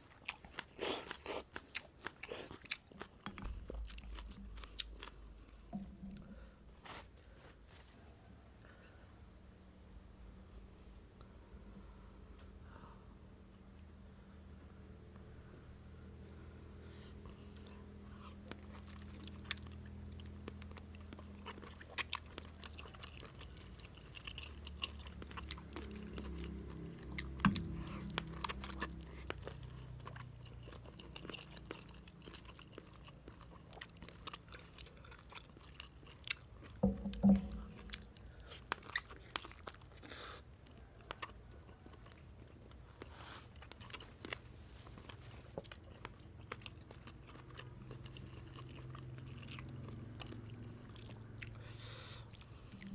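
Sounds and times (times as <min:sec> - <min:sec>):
person chewing food: 0:00.0 - 0:07.9, 0:17.1 - 0:52.9.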